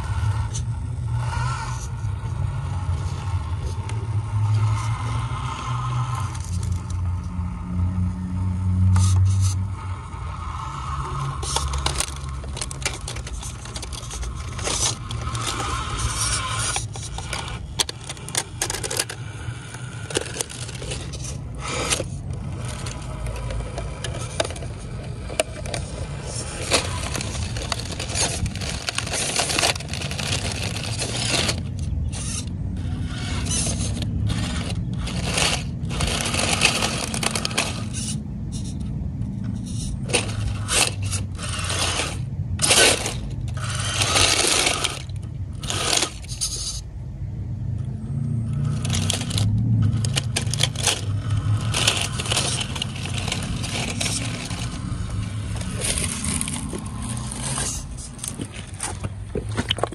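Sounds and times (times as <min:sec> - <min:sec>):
electric motor whirring: 0:00.0 - 0:46.9, 0:47.8 - 0:59.1
tyres scraping on stone: 0:09.0 - 0:46.9, 0:48.4 - 0:59.9.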